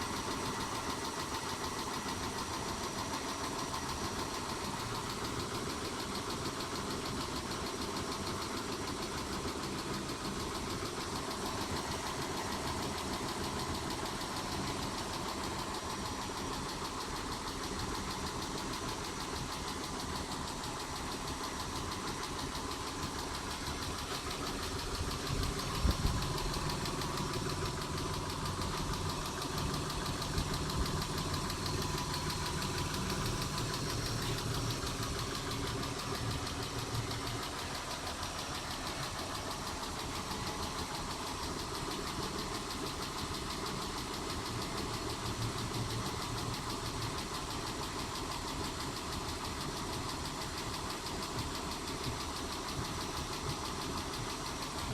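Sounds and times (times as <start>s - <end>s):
car engine idling: 0.0s - 54.9s
rapid valvetrain ticking: 0.0s - 54.9s.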